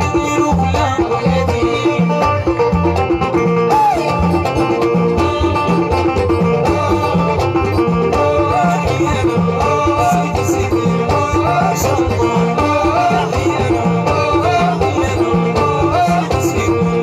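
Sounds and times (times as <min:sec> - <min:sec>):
banjo plucking fast melody: 0:00.0 - 0:17.0.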